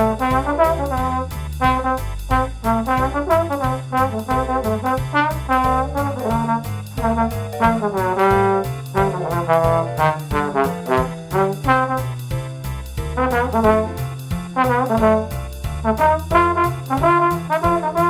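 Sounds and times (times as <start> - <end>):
swung drums: 0.0 - 18.0
trombone jazz solo: 0.0 - 18.0
walking bass line: 0.0 - 18.0.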